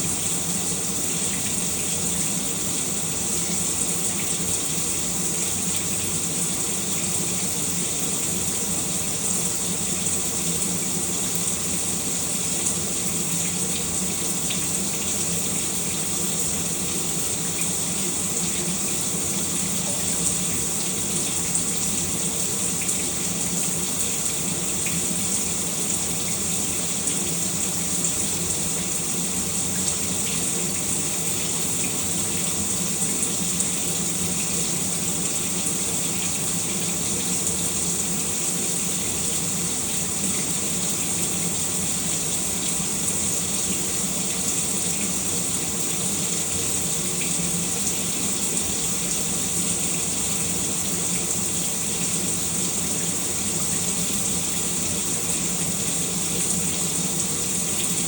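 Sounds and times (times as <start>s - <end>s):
shower running: 0.0s - 58.0s.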